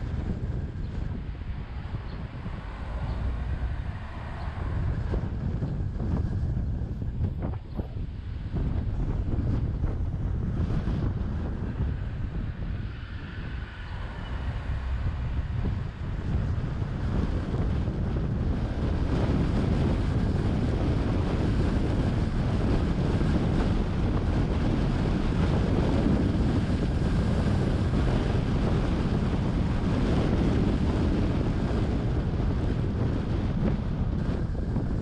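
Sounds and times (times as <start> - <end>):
car driving rumble: 0.0 - 35.0
wind buffeting microphone: 0.0 - 35.0.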